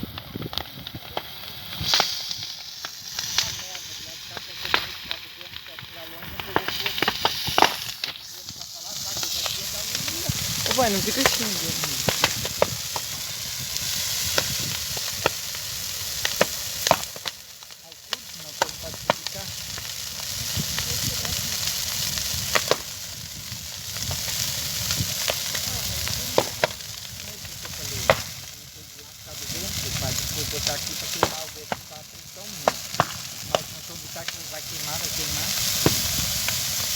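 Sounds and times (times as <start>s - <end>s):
bonfire rushing hiss: 0.0s - 36.9s
fire crackles and pops: 0.0s - 36.9s.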